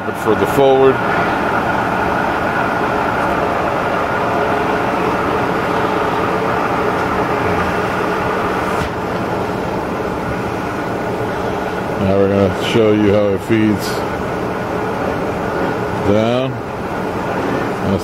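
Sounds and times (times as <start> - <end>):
milling machine whirring: 0.0 - 18.0.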